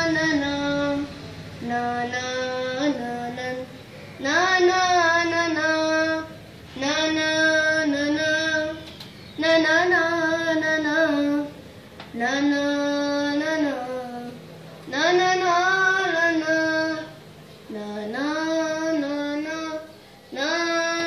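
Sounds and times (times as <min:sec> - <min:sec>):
child singing wordless tune: 0:00.0 - 0:21.0.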